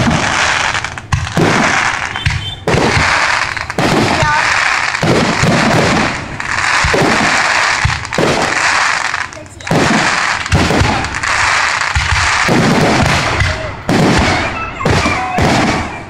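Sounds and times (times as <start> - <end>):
fireworks banging: 0.0 - 16.0
fireworks crackling hiss: 0.0 - 16.0.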